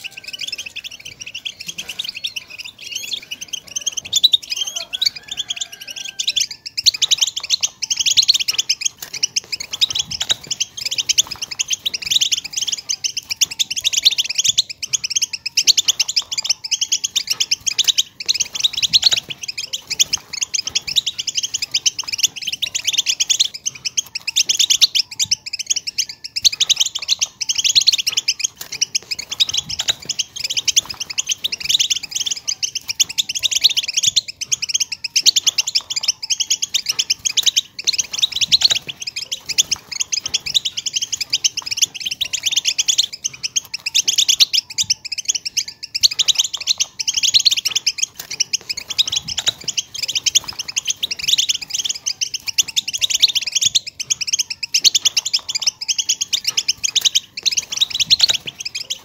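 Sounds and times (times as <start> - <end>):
goldfinches twittering: 0.0 - 59.0.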